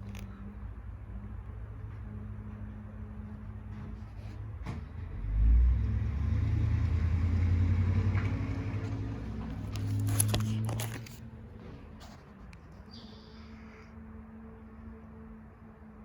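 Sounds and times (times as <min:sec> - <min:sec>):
motor vehicle rumble: 0:00.0 - 0:15.8.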